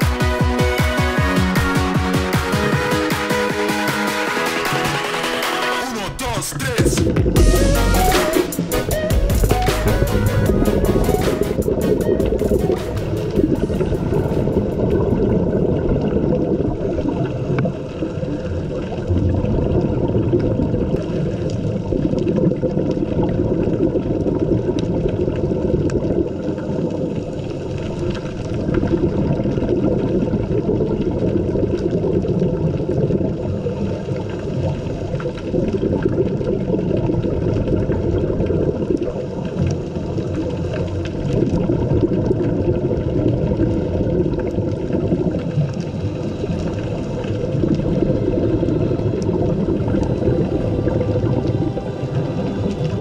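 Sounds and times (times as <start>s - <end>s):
regulator bubbles gurgling: 6.3s - 53.0s
low underwater rumbling wash: 8.6s - 53.0s.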